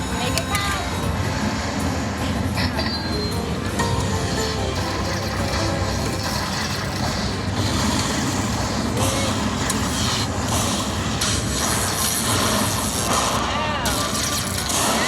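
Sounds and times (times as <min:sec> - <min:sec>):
slot machine noise: 0:00.0 - 0:15.0.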